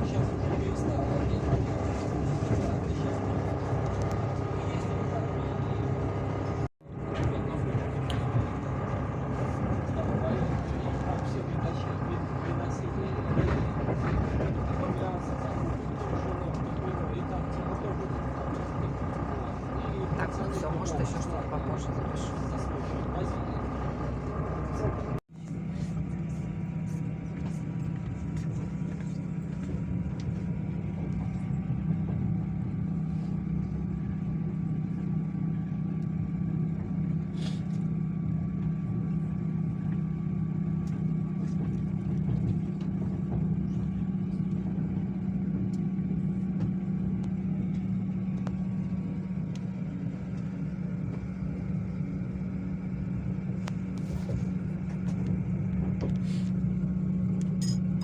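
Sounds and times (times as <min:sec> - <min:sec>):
train rumble inside carriage: 0:00.0 - 0:58.0.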